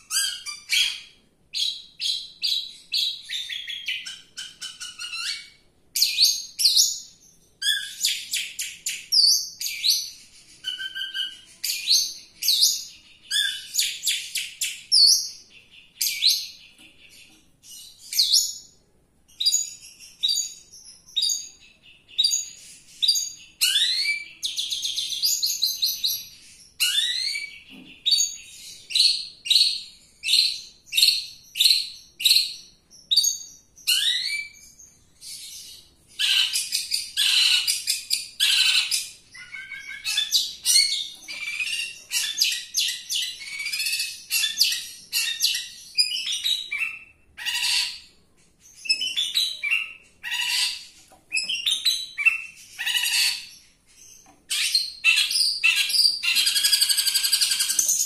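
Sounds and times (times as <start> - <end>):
bird singing chattering trills: 0.0 - 58.0.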